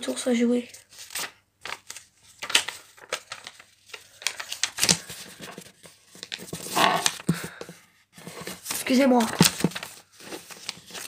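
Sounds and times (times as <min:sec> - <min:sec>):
paper rustling and crinkling: 0:00.6 - 0:11.0.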